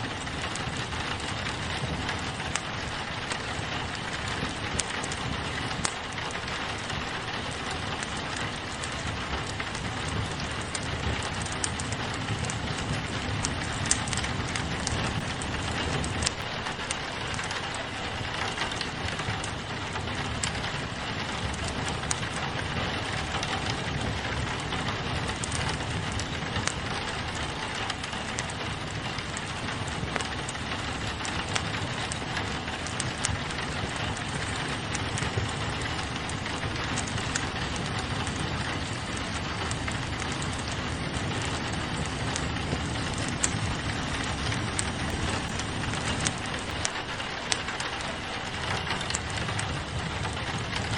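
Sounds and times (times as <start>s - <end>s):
rain pattering on a window: 0.0s - 50.9s
wood fire crackling and popping: 0.0s - 50.9s.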